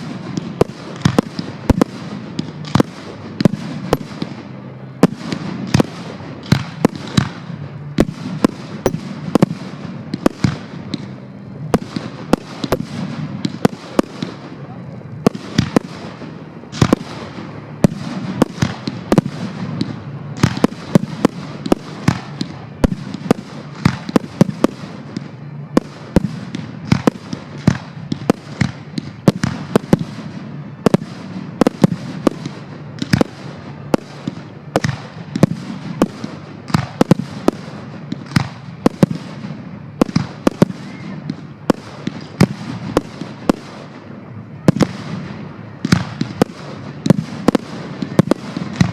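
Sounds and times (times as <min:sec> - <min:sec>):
fireworks bangs: 0:00.0 - 0:48.9
fireworks rumble and crackle: 0:00.0 - 0:48.9.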